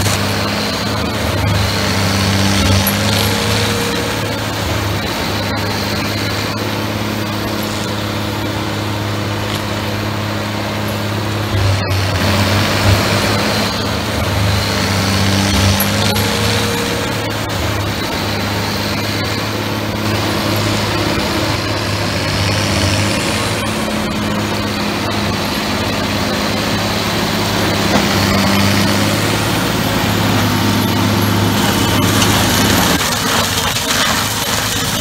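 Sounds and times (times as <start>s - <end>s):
mulcher shredding brush: 0.0s - 35.0s
tractor diesel engine under load: 0.0s - 35.0s.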